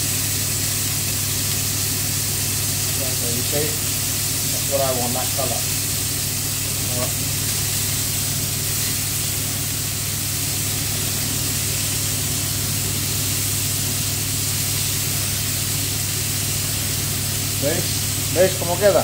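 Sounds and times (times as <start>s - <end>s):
meat sizzling in frying pans: 0.0s - 19.0s.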